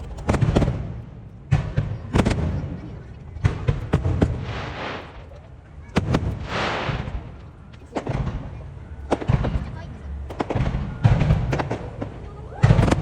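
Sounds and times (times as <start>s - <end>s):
crackling hiss of fireworks: 0.0s - 13.0s
fireworks booming: 0.0s - 13.0s.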